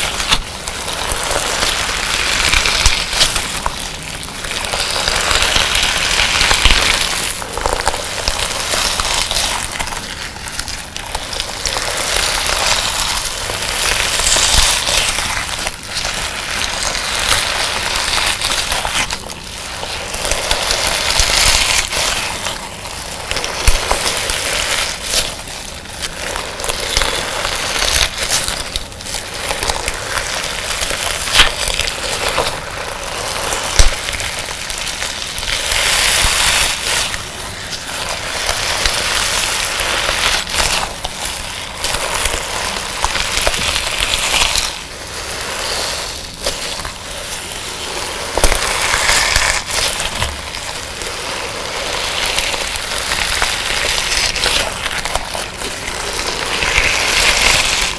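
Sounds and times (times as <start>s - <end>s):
sand slime squeezed crackling: 0.0s - 57.9s.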